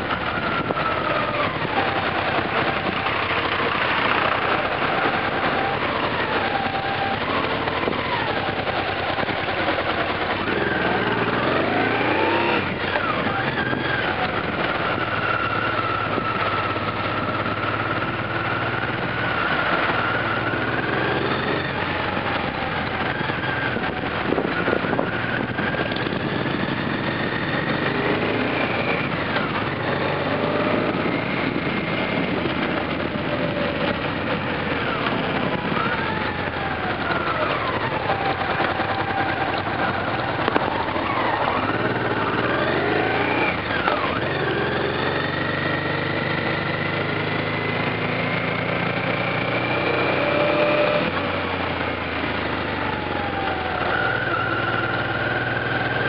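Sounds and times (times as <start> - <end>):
motorcycle engine revving: 0.0 - 56.0
wind and road noise: 0.0 - 56.0.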